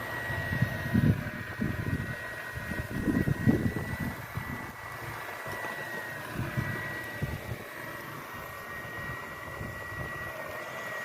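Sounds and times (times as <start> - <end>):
electric drive whining: 0.0 - 11.0.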